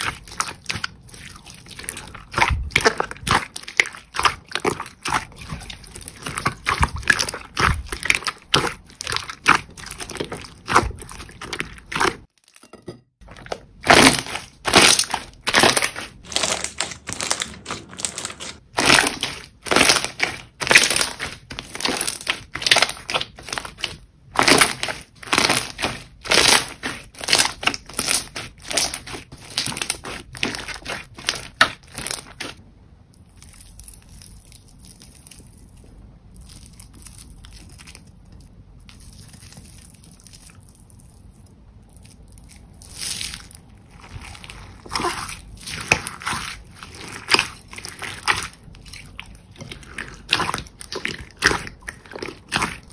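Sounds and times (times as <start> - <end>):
jelly slime squishing: 0.0 - 52.9.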